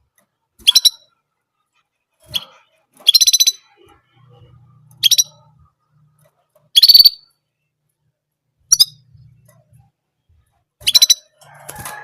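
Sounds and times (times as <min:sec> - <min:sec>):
canary trilling song: 0:00.6 - 0:07.8, 0:08.6 - 0:12.0.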